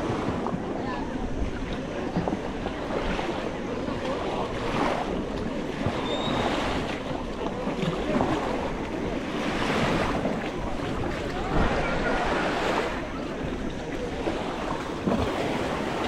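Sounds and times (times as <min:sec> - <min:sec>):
waves washing on sandy beach: 0:00.0 - 0:16.0
wind buffeting microphone: 0:00.0 - 0:16.0.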